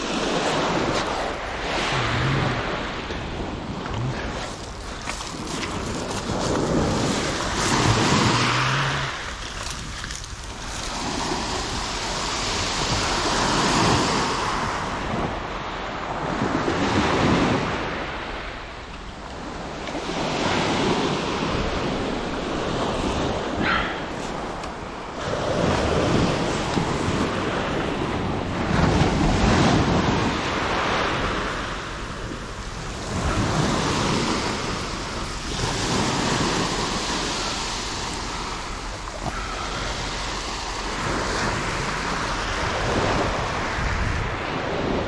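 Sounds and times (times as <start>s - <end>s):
waves washing over shingle: 0.0s - 45.0s.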